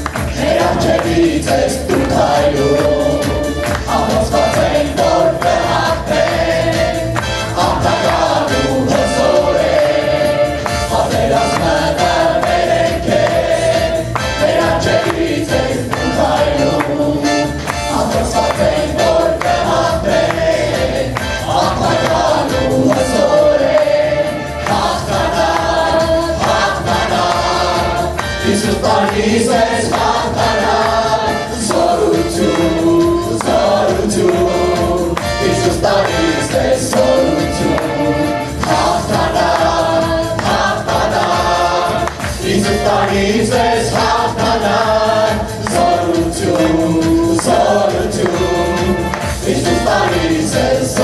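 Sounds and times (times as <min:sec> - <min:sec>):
band with tambourine: 0:00.0 - 0:51.0
congregation singing: 0:00.0 - 0:51.0.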